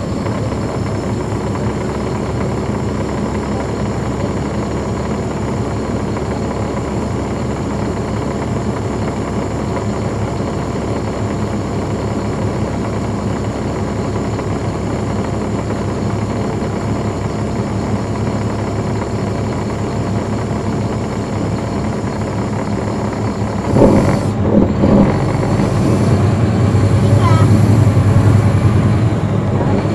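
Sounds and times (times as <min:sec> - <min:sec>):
bus diesel engine running: 0:00.0 - 0:29.9.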